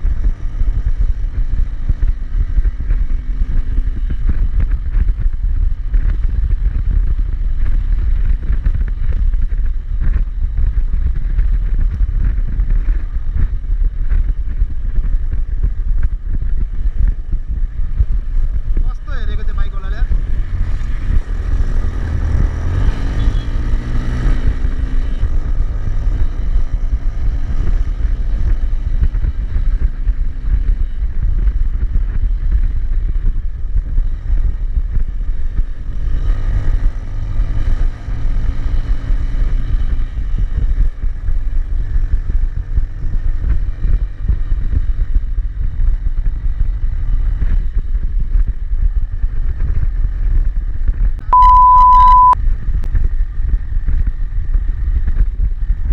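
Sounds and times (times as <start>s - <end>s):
motorcycle engine running: 0.0s - 55.9s
wind rumble on microphone: 0.0s - 55.9s.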